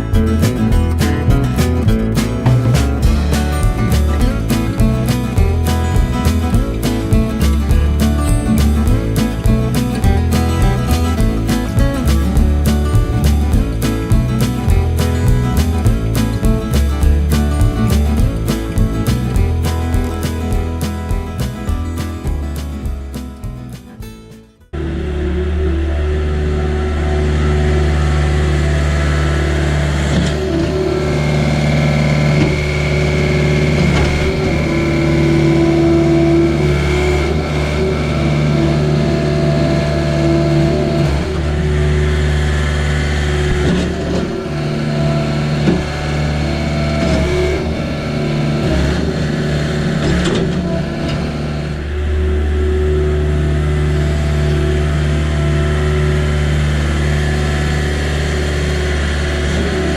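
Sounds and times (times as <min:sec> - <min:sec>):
heavy machinery engine running: 0:00.0 - 0:59.9
high whine: 0:00.0 - 0:59.9.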